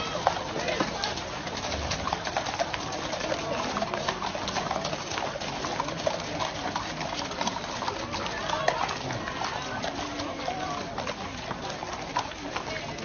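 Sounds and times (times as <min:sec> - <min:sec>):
background hubbub: 0:00.0 - 0:13.0
hooves clopping on wet ground: 0:00.0 - 0:13.0.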